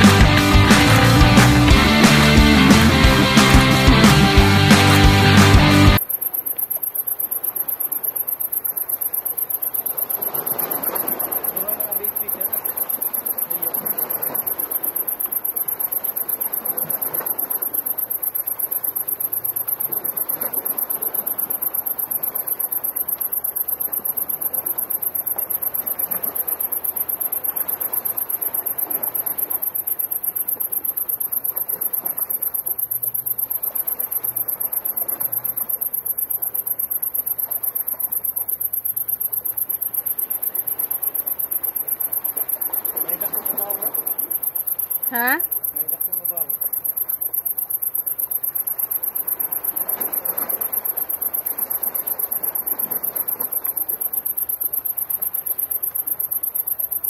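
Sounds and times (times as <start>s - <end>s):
high-pitched insect trill: 6.0s - 57.0s.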